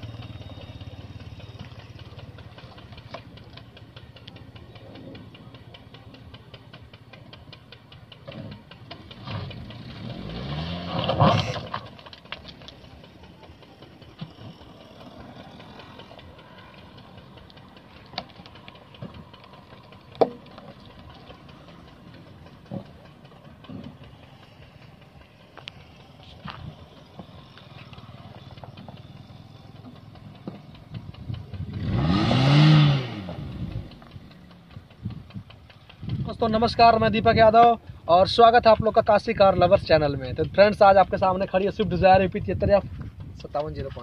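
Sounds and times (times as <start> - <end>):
engine rising in pitch: 0.0 - 37.5
car engine running low: 0.0 - 44.0.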